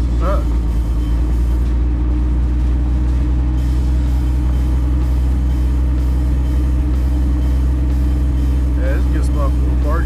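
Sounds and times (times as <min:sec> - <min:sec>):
car engine droning: 0:00.0 - 0:10.0
road noise: 0:00.0 - 0:10.0.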